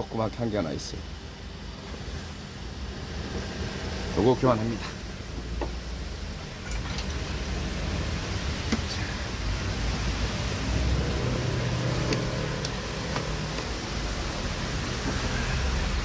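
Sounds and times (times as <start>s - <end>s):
workshop background hum: 0.0s - 16.0s.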